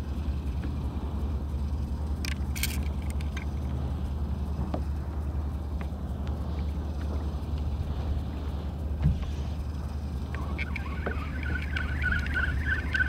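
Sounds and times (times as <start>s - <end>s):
gear clicking and rattling: 0.0s - 13.0s
low rumble on open water: 0.0s - 13.0s.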